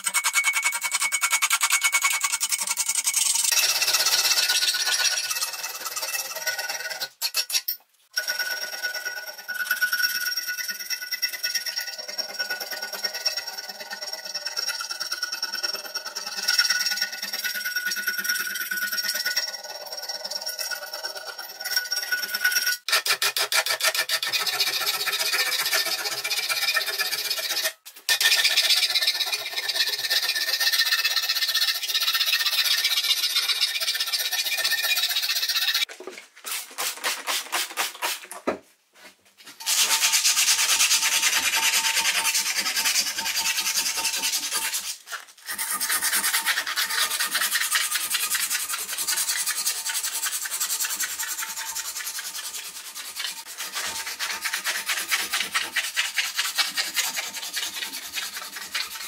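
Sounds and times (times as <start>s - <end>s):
abrasive rasping on metal: 0.0s - 35.9s, 39.6s - 59.0s.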